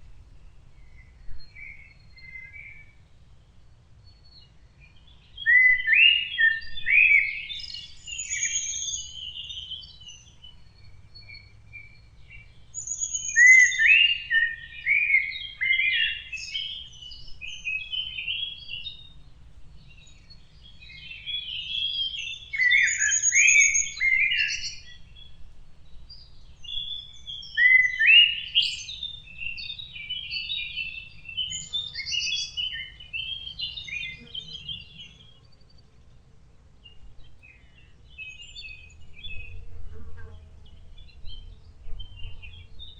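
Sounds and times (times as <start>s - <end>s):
songbird singing: 0.0s - 42.9s.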